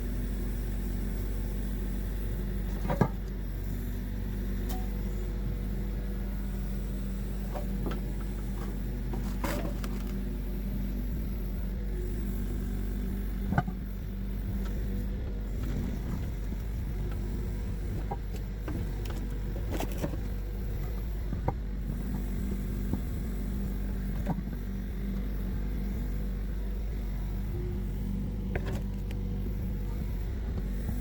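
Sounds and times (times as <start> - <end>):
motor humming: 0.0 - 31.0.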